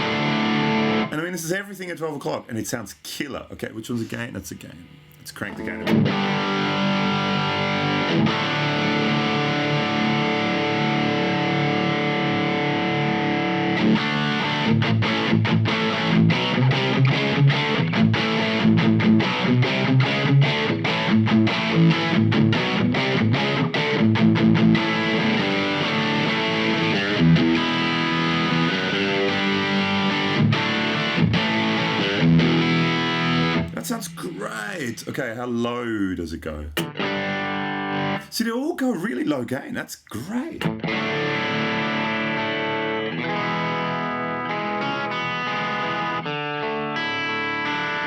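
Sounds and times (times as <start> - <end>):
distorted electric guitar chords: 0.0 - 1.1, 4.5 - 35.2, 36.6 - 38.3, 40.2 - 48.0.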